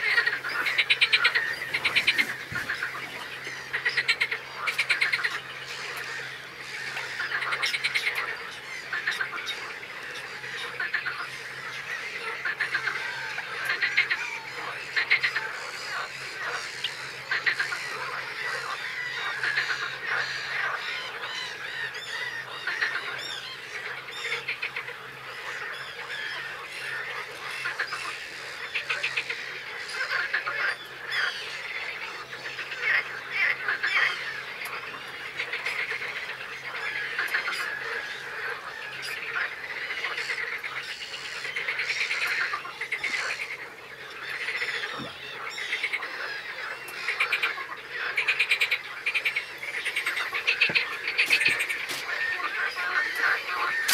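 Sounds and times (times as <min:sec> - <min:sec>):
many birds calling: 0:00.0 - 0:53.9.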